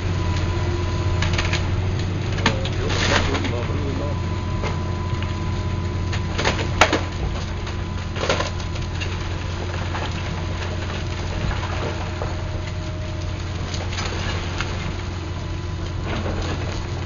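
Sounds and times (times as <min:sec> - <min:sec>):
excavator engine running: 0:00.0 - 0:17.0
masonry and timber crashing: 0:01.1 - 0:17.0.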